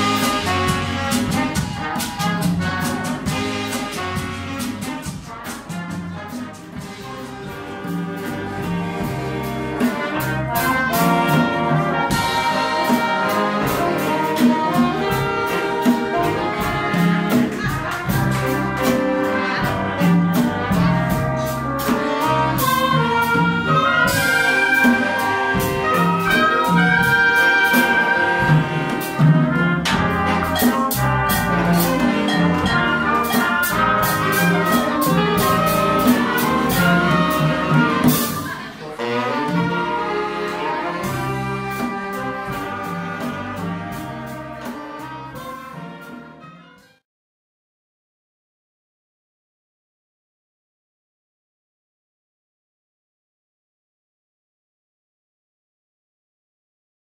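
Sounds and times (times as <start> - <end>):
salsa band playing: 0.0 - 47.0.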